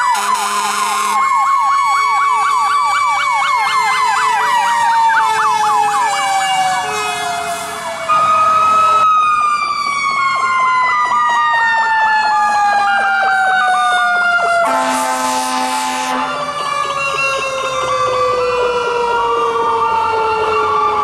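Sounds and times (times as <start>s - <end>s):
electronic siren yelping: 0.0s - 21.0s
mechanical siren winding down: 0.0s - 21.0s.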